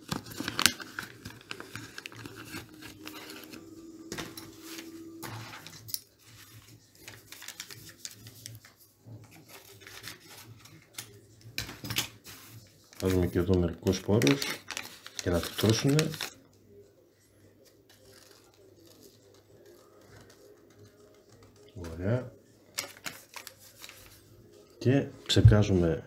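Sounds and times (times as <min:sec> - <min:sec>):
paper rustling and crinkling: 0:00.0 - 0:16.4, 0:17.5 - 0:24.3.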